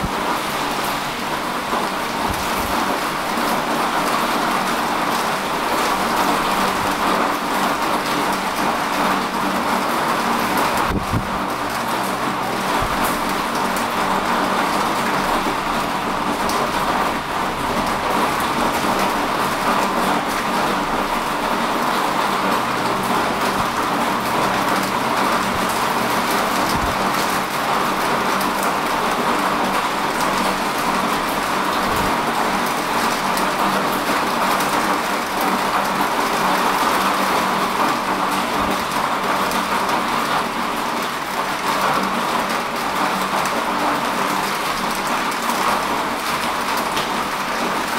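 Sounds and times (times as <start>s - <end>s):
steady rain hiss: 0.0s - 47.9s.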